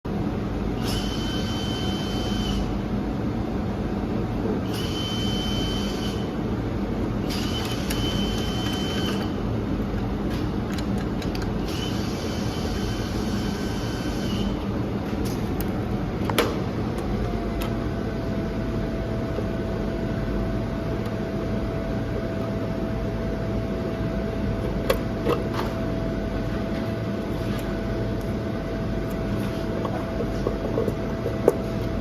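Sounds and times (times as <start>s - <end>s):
constant low hum: 0.1s - 32.0s
mig welder whine and hiss: 0.6s - 2.9s, 4.4s - 10.7s, 11.3s - 30.8s.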